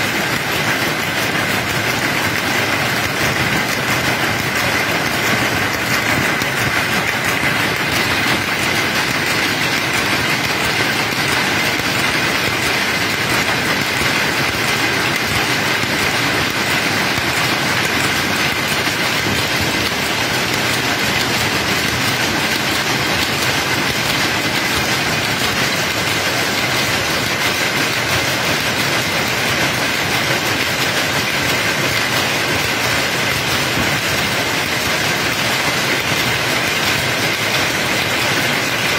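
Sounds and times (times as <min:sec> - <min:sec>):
power looms clattering: 0:00.0 - 0:38.9.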